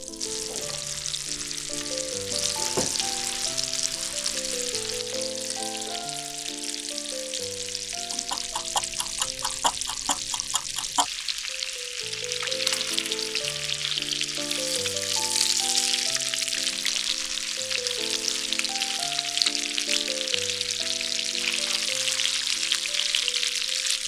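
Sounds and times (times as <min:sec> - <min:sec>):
light background music: 0:00.0 - 0:10.6, 0:11.6 - 0:24.0
food sizzling in butter: 0:00.0 - 0:24.0.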